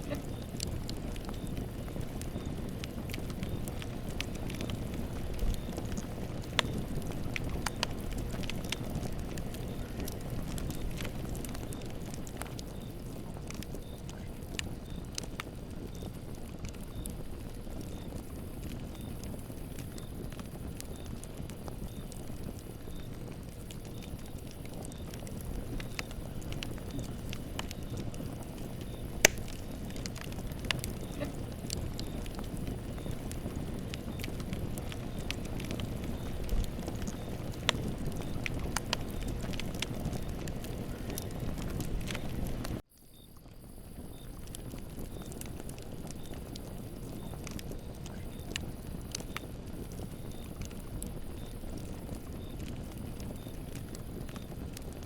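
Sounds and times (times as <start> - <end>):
campfire rumble: 0.0 - 55.0
fire crackles and pops: 0.0 - 55.0.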